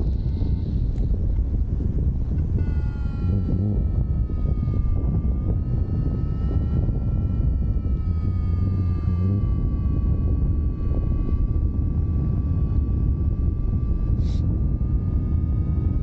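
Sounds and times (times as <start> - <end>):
steady whining tone: 0.0 - 16.0
wind rushing over microphone: 0.0 - 16.0.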